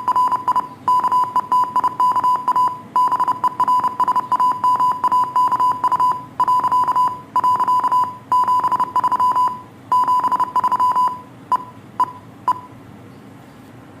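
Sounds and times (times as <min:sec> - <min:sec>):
morse code beeps: 0:00.0 - 0:12.8.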